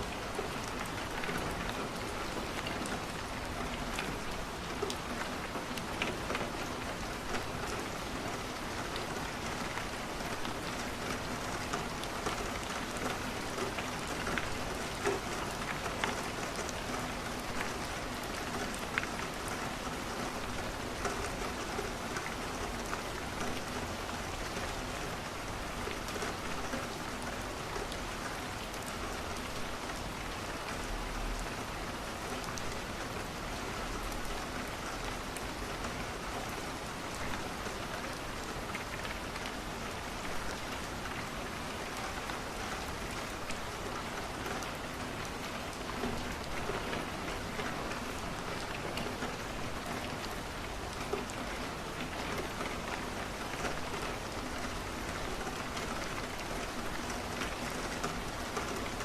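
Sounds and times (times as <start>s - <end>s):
rain pattering on a window: 0.0s - 59.0s.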